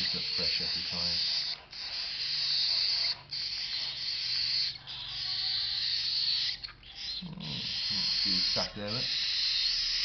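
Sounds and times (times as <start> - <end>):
chicks rasping begging calls: 0.0 - 10.0.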